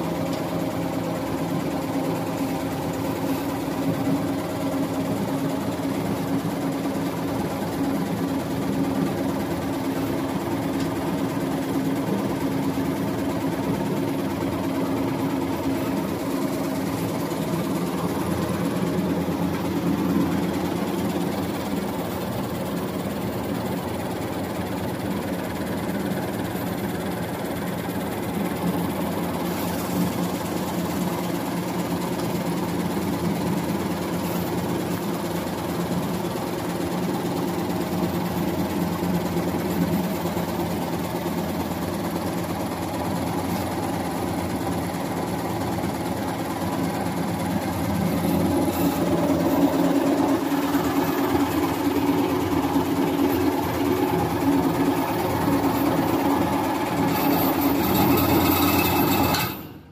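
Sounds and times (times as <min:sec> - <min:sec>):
machine humming: 0:00.0 - 0:59.9.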